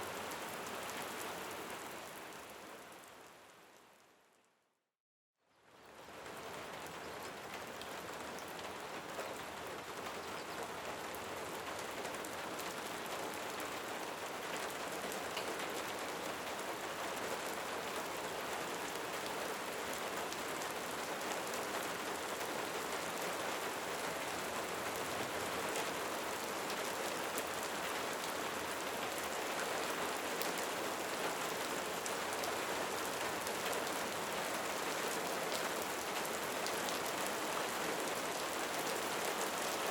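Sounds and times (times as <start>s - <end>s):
steady rain falling: 0.0s - 4.3s, 5.6s - 39.9s.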